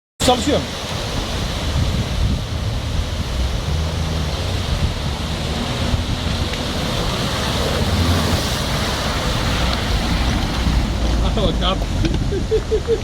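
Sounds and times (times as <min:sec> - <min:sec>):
loud rushing noise: 0:00.8 - 0:12.0
engine humming: 0:02.2 - 0:12.9.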